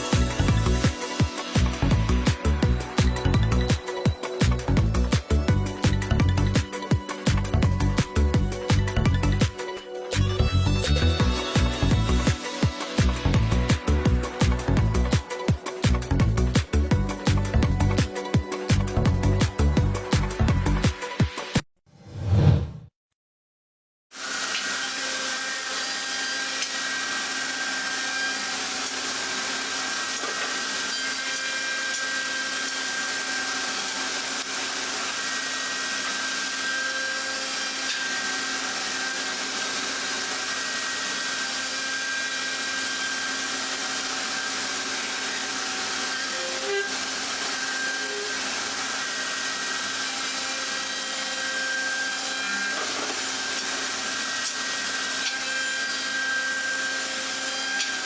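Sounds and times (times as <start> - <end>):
power tool working wood: 0.0 - 21.2, 24.1 - 58.0.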